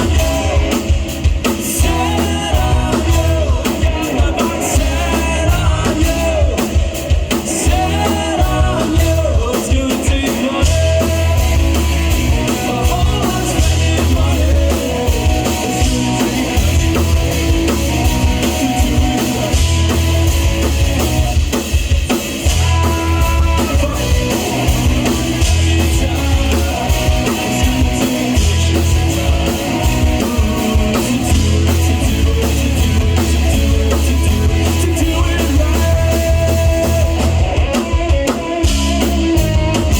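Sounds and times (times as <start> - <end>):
person singing: 0.0 - 20.2, 22.5 - 37.9
drum kit: 0.0 - 39.9
live rock band playing: 0.0 - 39.9.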